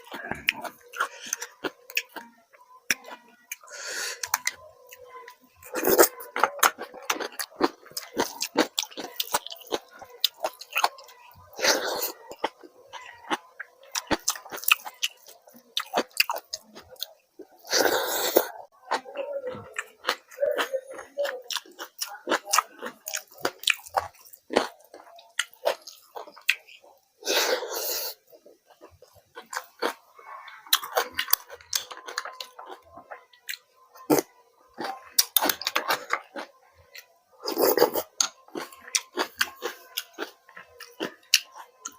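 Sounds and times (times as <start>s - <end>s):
chewing food with mouth clicks: 0.0s - 41.9s.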